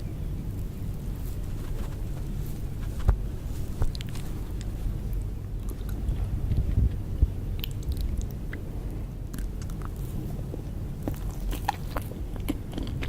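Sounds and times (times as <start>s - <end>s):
person chewing cake: 1.4s - 13.0s.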